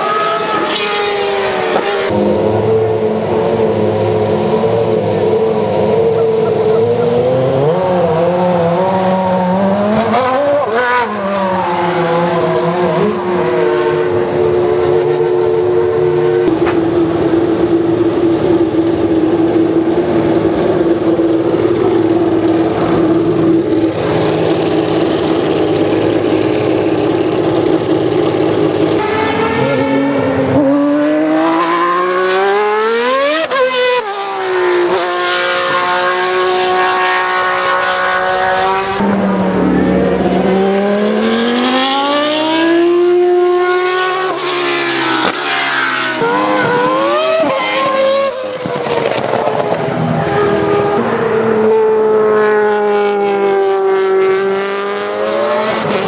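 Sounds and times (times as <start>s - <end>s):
racing car accelerating: 0.0s - 56.0s
racing engine revving: 0.0s - 56.0s.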